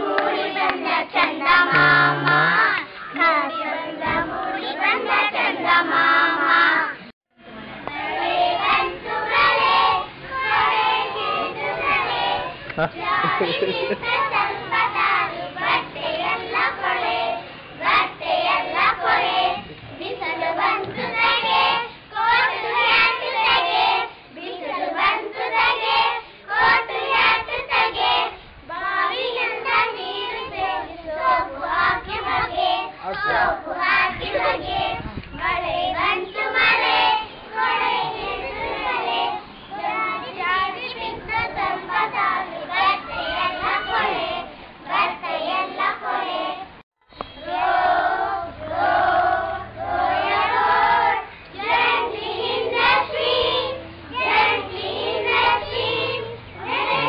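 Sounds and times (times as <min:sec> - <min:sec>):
children singing: 0:00.0 - 0:07.0, 0:07.9 - 0:46.7, 0:47.3 - 0:57.0.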